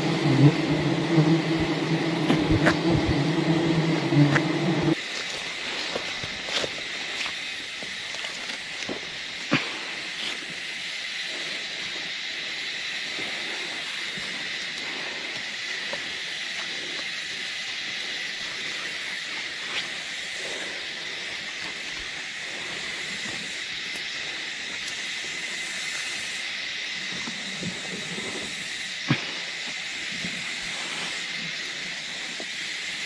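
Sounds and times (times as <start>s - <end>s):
high-pitched hissing outdoor drone: 0.0s - 33.0s.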